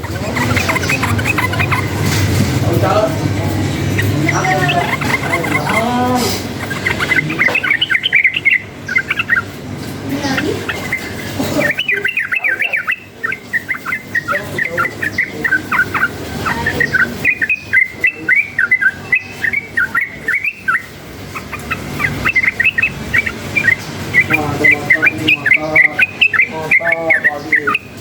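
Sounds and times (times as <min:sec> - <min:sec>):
bird singing bubbly chirps: 0:00.0 - 0:02.0, 0:03.8 - 0:28.0.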